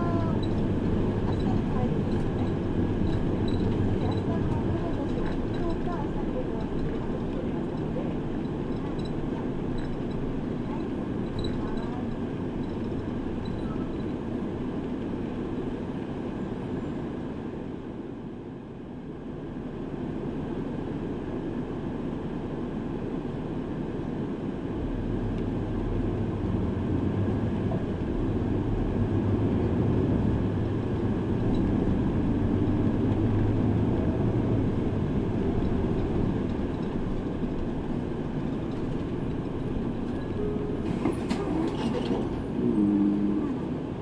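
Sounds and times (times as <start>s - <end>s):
bus engine drone: 0.0s - 44.0s
road rumble: 0.0s - 44.0s.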